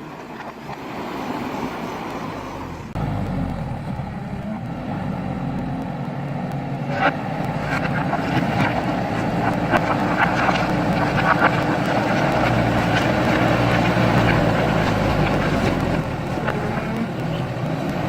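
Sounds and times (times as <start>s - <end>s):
diesel engine running: 1.8s - 18.0s.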